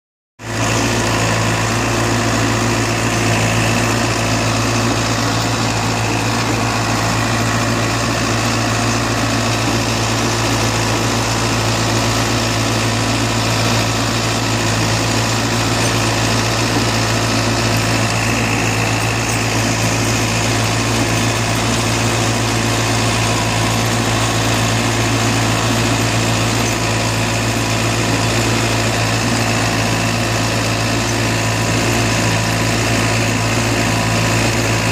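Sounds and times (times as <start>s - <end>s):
tractor engine running: 0.4s - 34.9s.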